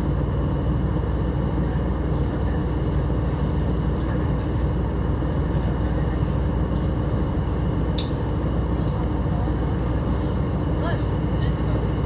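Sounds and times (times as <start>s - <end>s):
faint constant hum: 0.0s - 12.0s
train wheels rumbling on rails: 0.0s - 12.0s.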